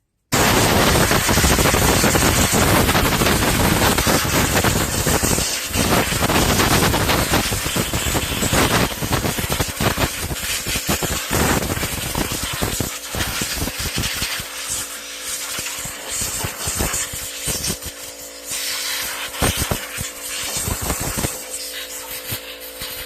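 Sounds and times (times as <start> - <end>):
compressed air blow gun hissing: 0.4 - 23.0.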